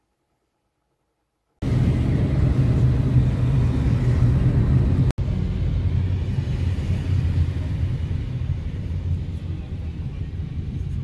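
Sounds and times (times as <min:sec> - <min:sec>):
road and engine rumble in car: 0:01.6 - 0:11.0.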